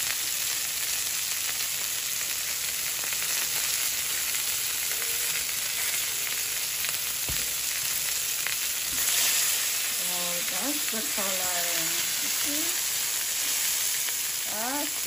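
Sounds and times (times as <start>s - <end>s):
fish fillets sizzling in oil: 0.0s - 15.0s.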